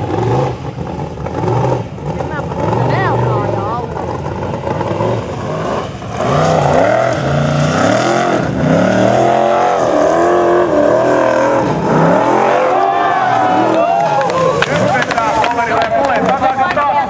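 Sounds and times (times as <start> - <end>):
buggy engine revving: 0.0 - 17.0.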